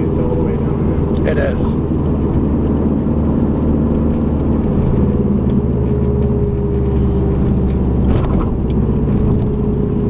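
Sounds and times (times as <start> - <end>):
car engine running: 0.0 - 10.0
road noise inside car: 0.0 - 10.0.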